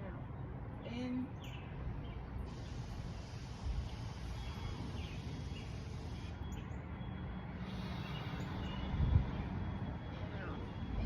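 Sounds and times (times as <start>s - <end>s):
steady low rumble: 0.0s - 11.0s
birds chirping: 0.1s - 11.0s.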